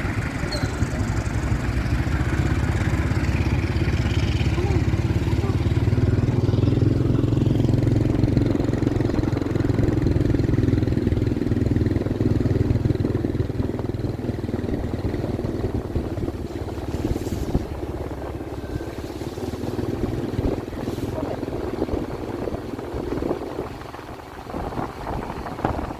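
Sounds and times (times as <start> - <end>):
train engine rumble: 0.0 - 25.9.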